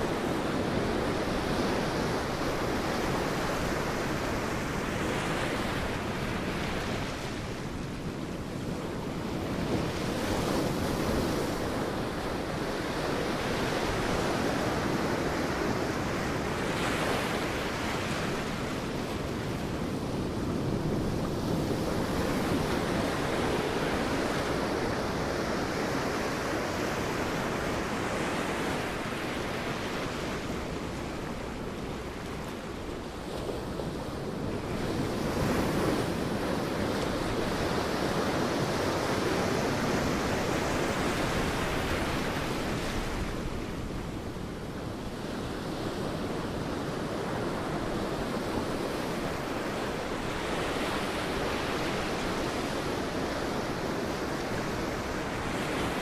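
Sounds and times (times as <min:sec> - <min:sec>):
sea waves breaking on beach: 0:00.0 - 0:56.0.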